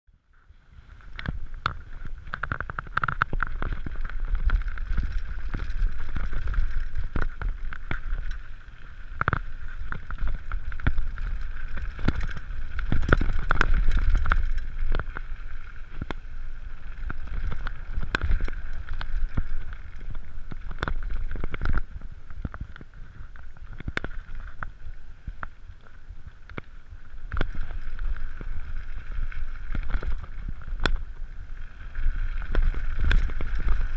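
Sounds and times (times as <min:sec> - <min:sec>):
bike rattling over bumps: 0:00.7 - 0:33.9
tyres rumbling over gravel: 0:00.8 - 0:24.9, 0:26.7 - 0:33.9.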